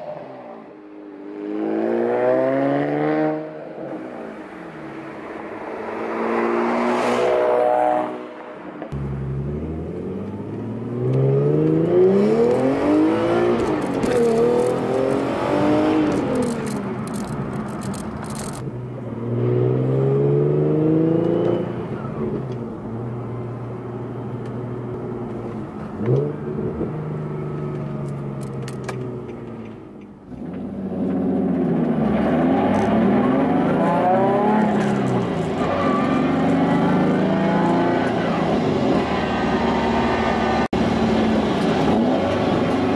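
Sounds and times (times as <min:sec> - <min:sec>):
car engine accelerating through gears: 0:05.7 - 0:22.8, 0:24.4 - 0:29.7, 0:30.3 - 0:42.9.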